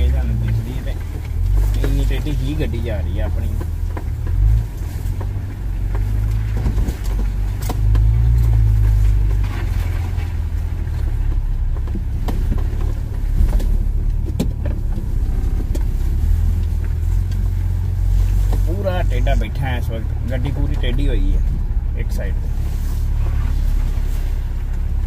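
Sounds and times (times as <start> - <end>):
engine and drivetrain rumble: 0.0 - 25.0
vehicle knocks and rattles: 0.0 - 25.0.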